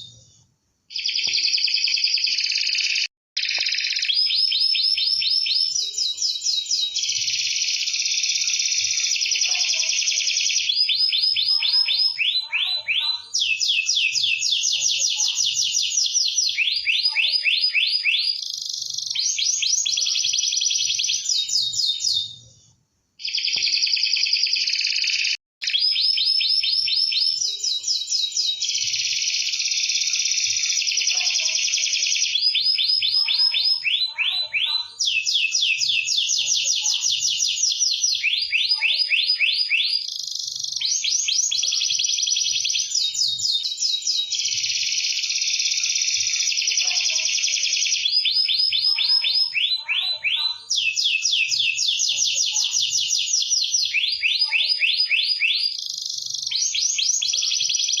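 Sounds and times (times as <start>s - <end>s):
canary singing trills: 0.9s - 22.5s, 23.2s - 58.0s.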